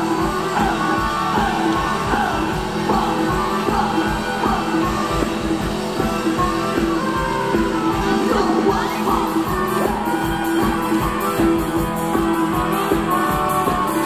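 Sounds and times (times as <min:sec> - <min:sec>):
live band dance music: 0:00.0 - 0:14.0
person singing: 0:00.0 - 0:14.0.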